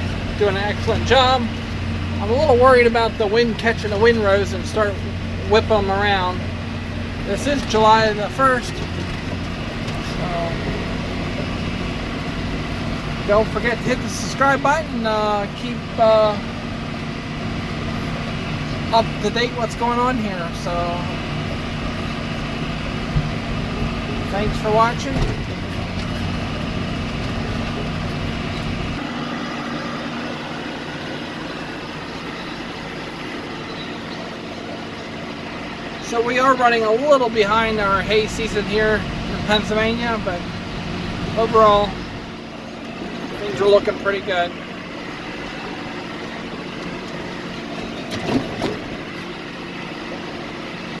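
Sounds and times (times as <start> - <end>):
tractor engine rumbling: 0.0 - 51.0.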